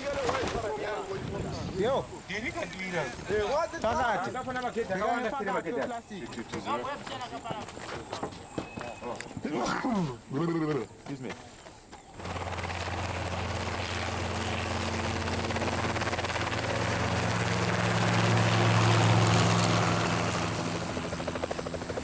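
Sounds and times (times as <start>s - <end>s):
helicopter engine and rotor droning: 0.2s - 9.6s, 11.8s - 22.0s.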